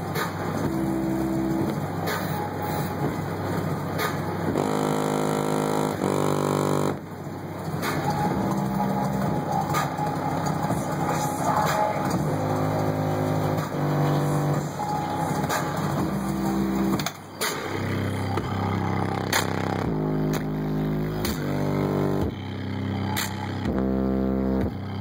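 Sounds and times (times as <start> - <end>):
held synth notes: 0.0 - 25.0
hip-hop beat with heavy bass: 0.0 - 25.0.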